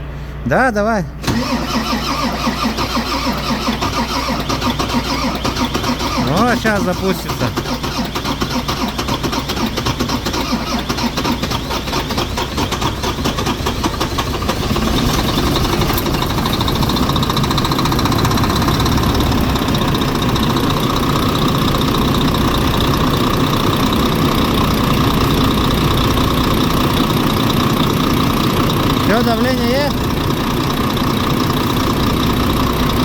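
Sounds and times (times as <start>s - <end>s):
diesel engine idling: 0.0s - 33.0s
starter cranking engine: 1.2s - 33.0s.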